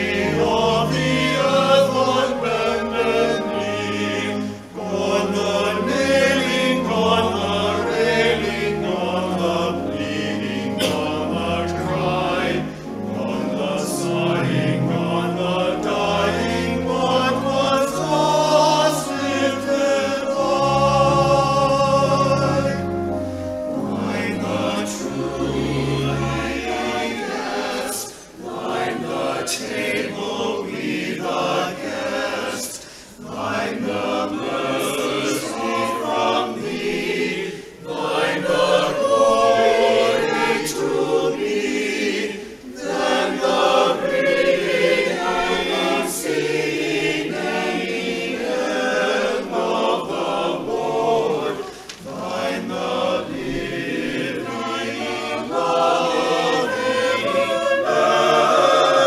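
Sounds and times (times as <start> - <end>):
group singing a hymn: 0.0 - 59.0
low accompanying notes: 0.0 - 59.0.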